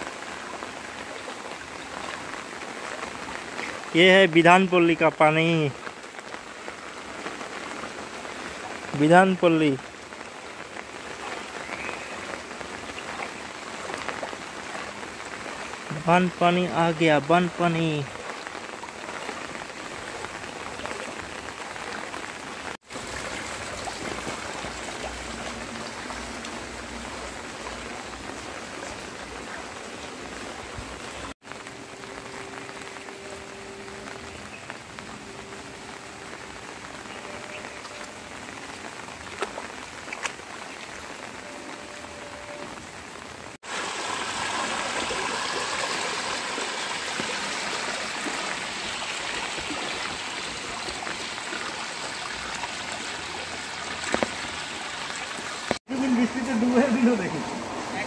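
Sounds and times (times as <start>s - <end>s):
bicycle wheels churning water: 0.0s - 33.2s, 43.5s - 58.0s
rain falling on water: 0.0s - 58.0s.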